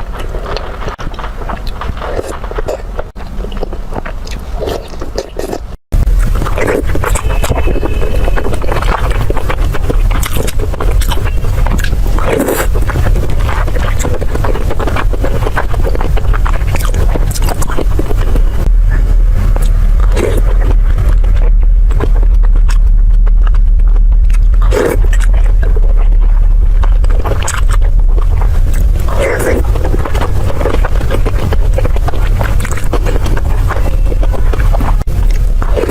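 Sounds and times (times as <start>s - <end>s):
chewing and crunching food: 0.0s - 35.9s
low steady rumble: 0.0s - 35.9s.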